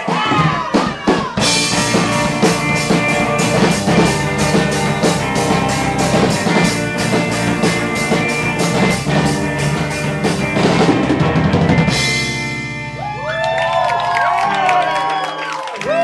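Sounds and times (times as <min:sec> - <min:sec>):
drum kit beat: 0:00.0 - 0:13.5
live rock band playing: 0:00.0 - 0:15.2.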